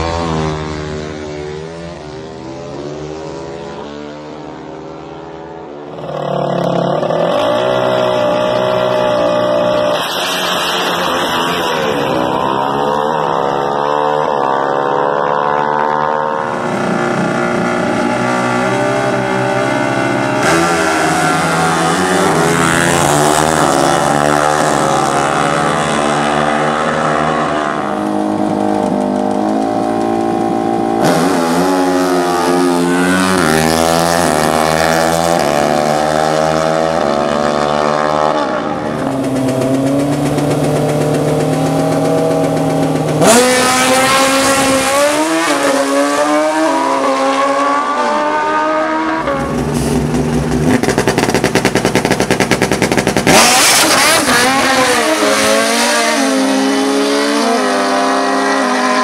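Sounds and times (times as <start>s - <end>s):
racing engines revving and shifting: 0.0s - 59.0s.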